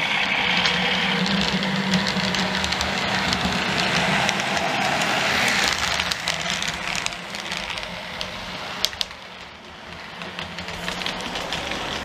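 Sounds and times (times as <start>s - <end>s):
diesel engine hum: 0.0s - 11.9s
model train wheels clicking: 0.0s - 12.0s.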